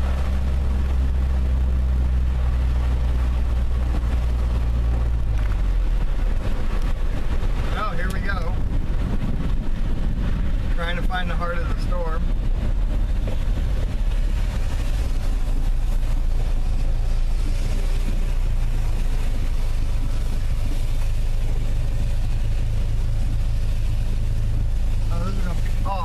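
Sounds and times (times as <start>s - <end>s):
car engine and road hum: 0.0s - 26.0s
rain: 0.0s - 26.0s
tyres hissing on wet road: 0.0s - 26.0s.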